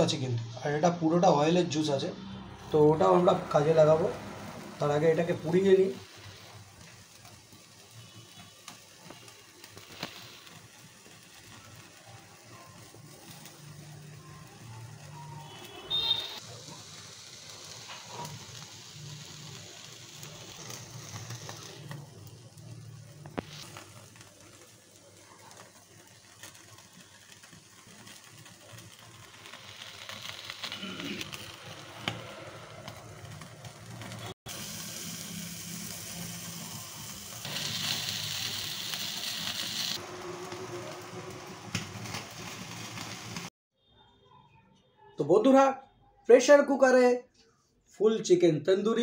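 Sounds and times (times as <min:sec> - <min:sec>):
chicken sizzling over flame: 0:00.0 - 0:43.6.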